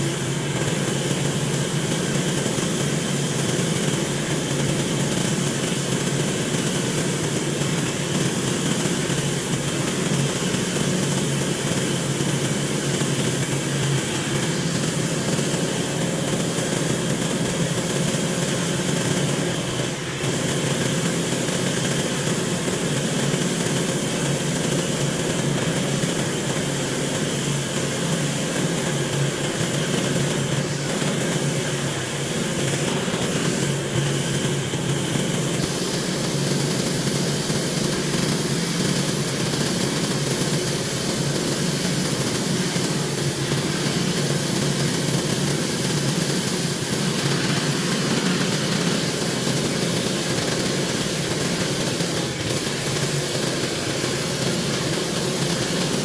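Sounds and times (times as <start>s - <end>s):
pressure washer running: 0.0s - 56.0s.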